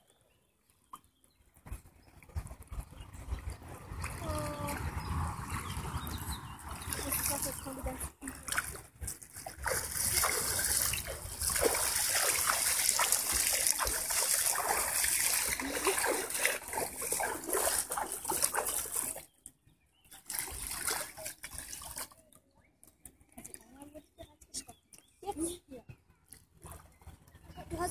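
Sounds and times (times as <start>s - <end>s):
water splashing and trickling: 0.0s - 27.9s.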